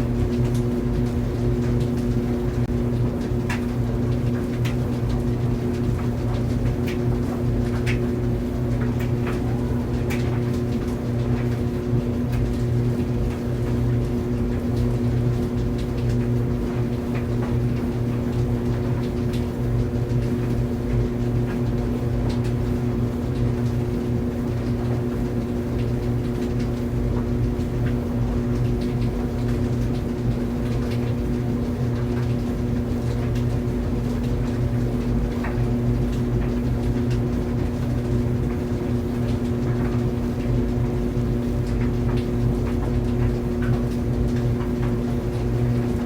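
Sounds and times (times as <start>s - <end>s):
clothes dryer running: 0.0s - 46.0s.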